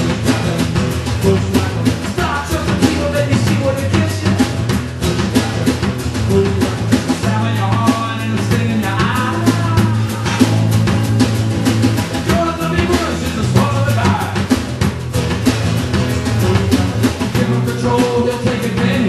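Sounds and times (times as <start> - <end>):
drum kit beat: 0.0 - 19.0
electric guitar: 0.0 - 19.0
strummed acoustic guitar: 0.0 - 19.0.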